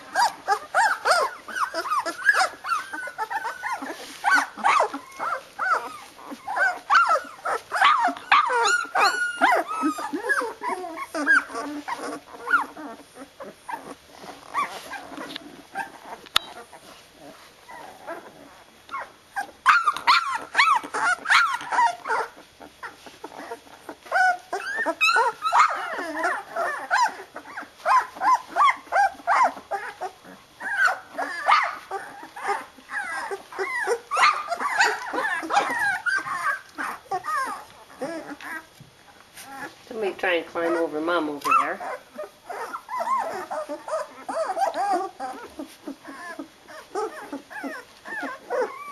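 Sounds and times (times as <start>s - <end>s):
puppies whining and squeaking: 0.0s - 48.9s.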